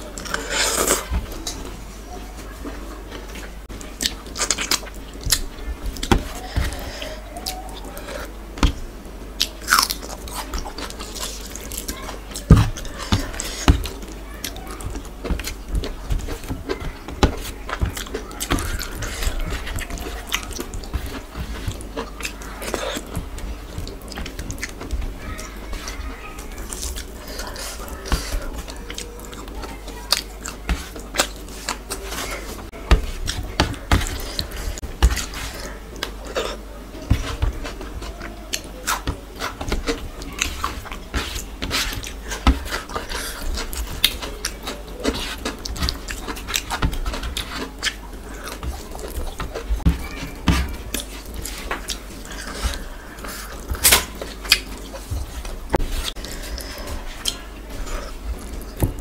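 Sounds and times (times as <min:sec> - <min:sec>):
wet chewing and smacking: 0:03.1 - 0:08.8, 0:09.4 - 0:59.0
fingers mixing rice in tray: 0:09.4 - 0:59.0.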